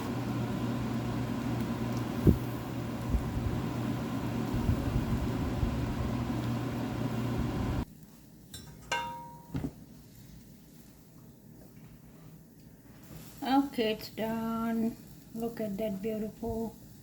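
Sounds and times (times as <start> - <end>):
range hood fan whirring: 0.0 - 17.0.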